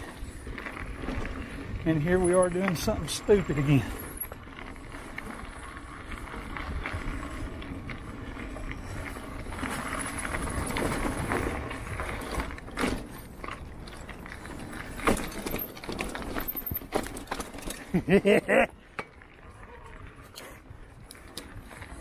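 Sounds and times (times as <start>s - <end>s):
wheels knocking over rocks: 0.0s - 20.3s
mountain bike tyres rolling on dirt: 0.0s - 22.0s.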